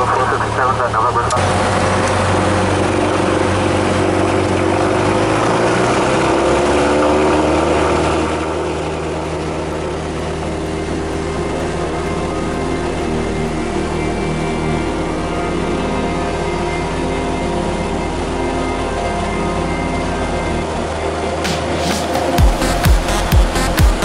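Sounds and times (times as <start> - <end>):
propeller plane engine running: 0.0 - 24.0.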